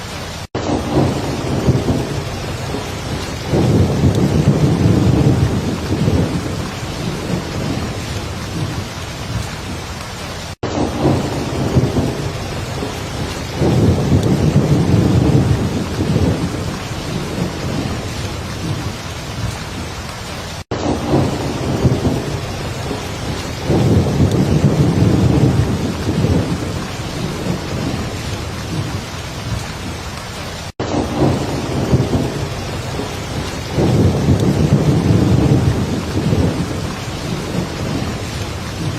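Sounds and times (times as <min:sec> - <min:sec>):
rolling thunder rumbles: 0:00.0 - 0:19.9, 0:20.7 - 0:38.9
heavy rain falling: 0:00.0 - 0:38.9.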